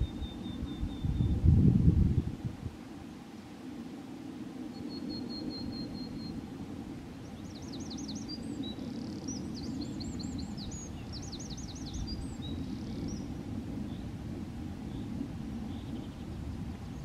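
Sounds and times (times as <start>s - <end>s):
songbird singing: 0.0s - 2.4s, 4.6s - 14.2s, 14.8s - 17.0s.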